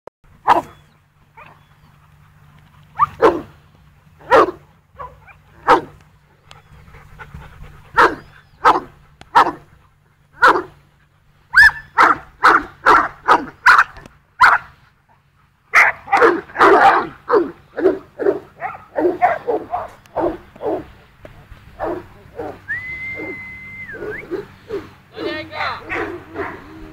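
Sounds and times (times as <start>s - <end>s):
dogs barking: 0.4s - 3.6s, 4.2s - 6.0s, 7.9s - 10.8s, 11.5s - 14.8s, 15.7s - 21.0s, 21.7s - 26.9s.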